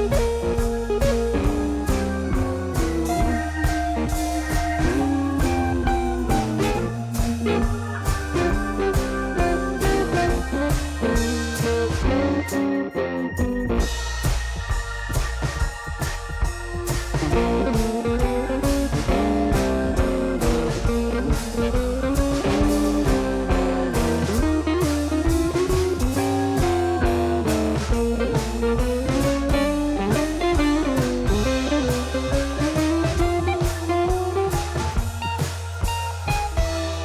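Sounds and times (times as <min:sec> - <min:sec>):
bass: 0:00.0 - 0:37.0
drum kit beat: 0:00.0 - 0:37.0
electric guitar melody: 0:00.0 - 0:37.0.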